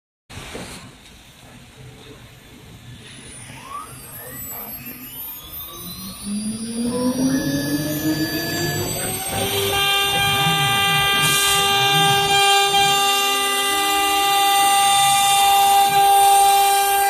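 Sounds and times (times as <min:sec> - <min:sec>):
router motor tones: 0:03.0 - 0:17.0
wood router spindle whining: 0:03.1 - 0:17.0.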